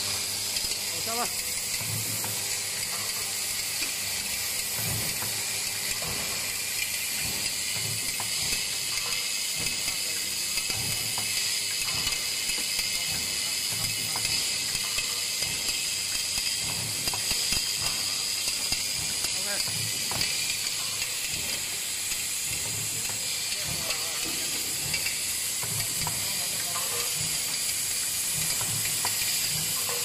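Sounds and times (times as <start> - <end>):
machine hissing: 0.0 - 30.0.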